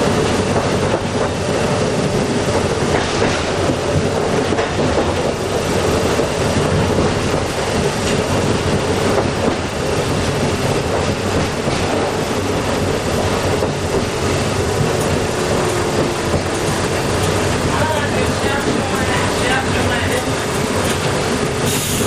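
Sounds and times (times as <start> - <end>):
streetcar wheels rumbling on track: 0.0 - 22.0.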